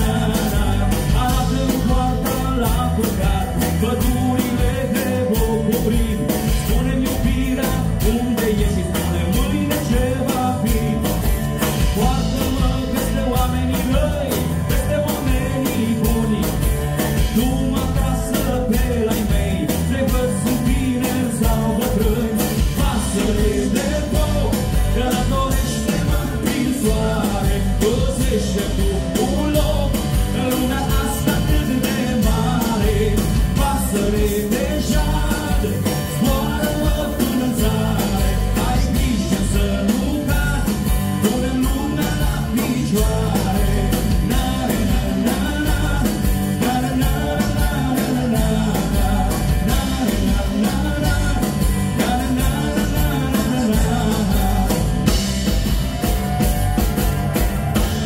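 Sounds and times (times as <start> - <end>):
acoustic guitar: 0.0 - 58.0
drum kit: 0.0 - 58.0
electric bass: 0.0 - 58.0
person singing lead vocals: 0.0 - 58.0.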